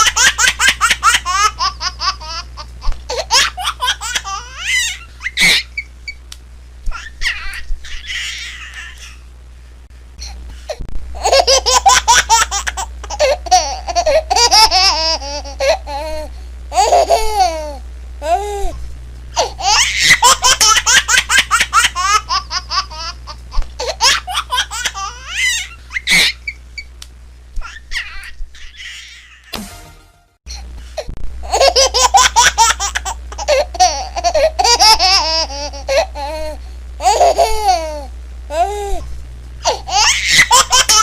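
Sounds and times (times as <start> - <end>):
baby laughing: 0.0 - 5.9, 6.9 - 9.2, 11.2 - 18.4, 19.4 - 26.6, 27.6 - 29.5, 31.4 - 38.8, 39.6 - 41.0.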